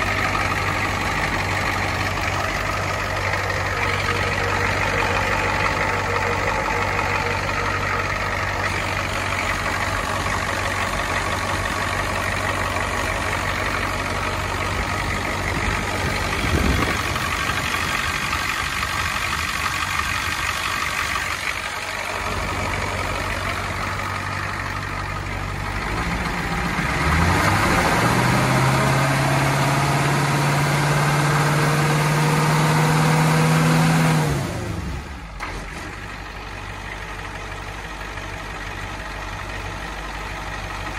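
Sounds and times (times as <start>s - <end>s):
diesel engine idling and revving: 0.0s - 40.9s.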